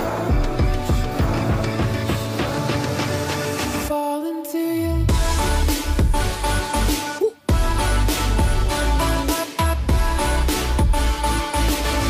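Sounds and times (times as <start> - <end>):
music with deep bass beat: 0.0 - 3.9, 5.0 - 12.0.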